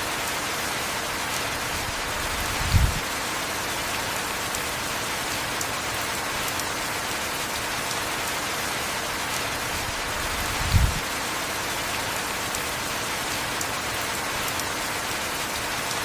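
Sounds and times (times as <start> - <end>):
heavy rain on a surface: 0.0 - 16.0.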